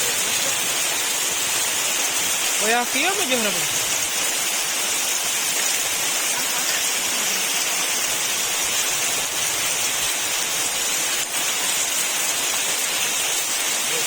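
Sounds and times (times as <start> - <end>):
heavy rain on trees: 0.0 - 14.0.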